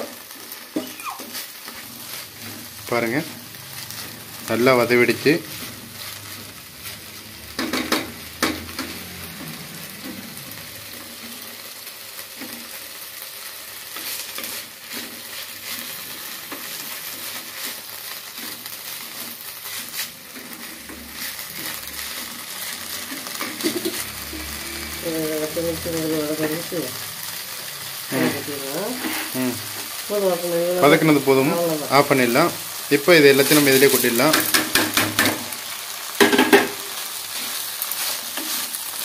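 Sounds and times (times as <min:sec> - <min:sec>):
wooden spatula scraping pan: 0:00.0 - 0:12.8, 0:13.8 - 0:30.0, 0:36.2 - 0:39.0
leaves and onions sizzling in oil: 0:00.0 - 0:39.0.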